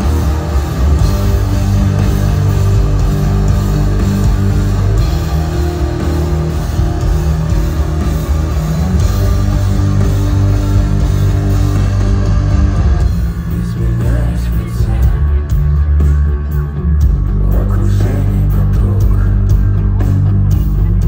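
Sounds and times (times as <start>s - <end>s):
electric guitars: 0.0s - 21.0s
heavy sustained bass: 0.0s - 21.0s
live rock band playing: 0.0s - 21.0s.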